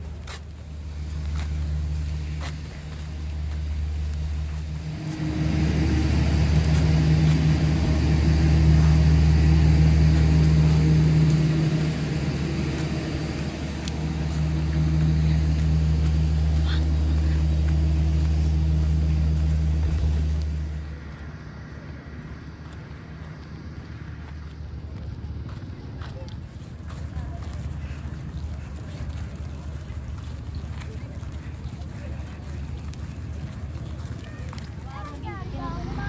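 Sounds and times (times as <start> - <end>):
outdoor background noise: 0.0 - 36.0
vehicle engine humming: 0.0 - 36.0.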